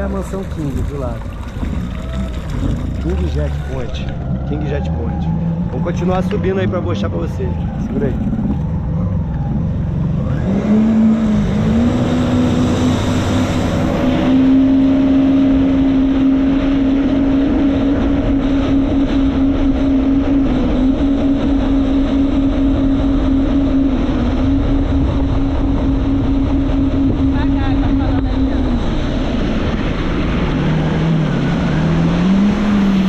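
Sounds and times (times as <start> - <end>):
jet ski engine: 0.0 - 33.0
rush of wind and water: 0.0 - 33.0.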